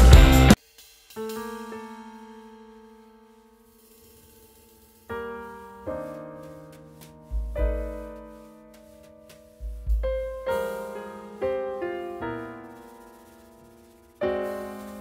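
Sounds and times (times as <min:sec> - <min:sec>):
slow piano music: 0:01.2 - 0:04.0, 0:04.6 - 0:15.0.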